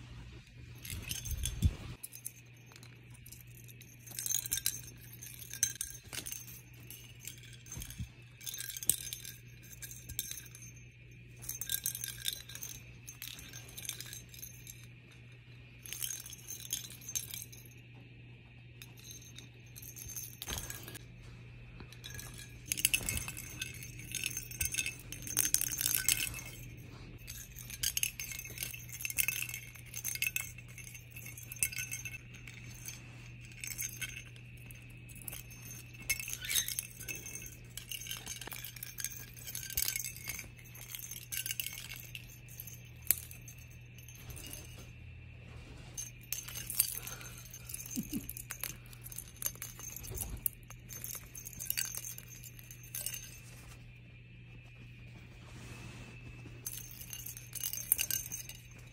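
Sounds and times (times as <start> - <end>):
toy ball bell jingling: 0.4 - 55.4, 56.2 - 58.9.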